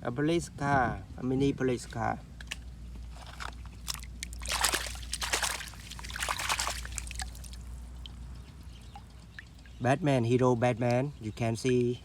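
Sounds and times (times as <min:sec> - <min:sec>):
water trickling and sloshing: 0:01.5 - 0:12.0.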